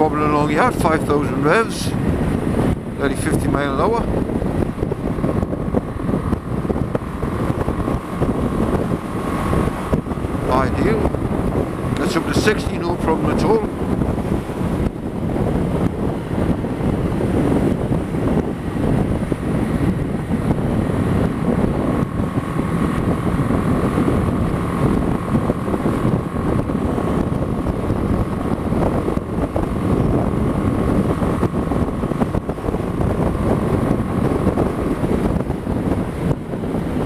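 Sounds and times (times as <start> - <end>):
motorcycle engine cruising: 0.0 - 37.0
wind noise on microphone: 0.0 - 37.0.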